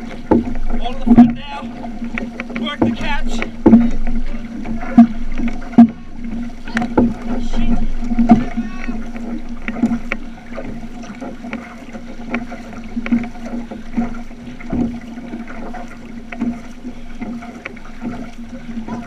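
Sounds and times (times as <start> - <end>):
paddles dipping in water: 0.0 - 19.0
water washing along hull: 0.0 - 19.0.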